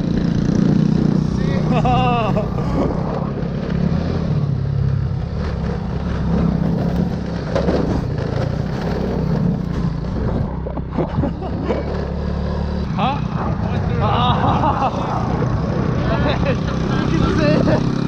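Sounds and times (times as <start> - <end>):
motorbike engine running: 0.0 - 18.0
wind and road noise: 0.0 - 18.0.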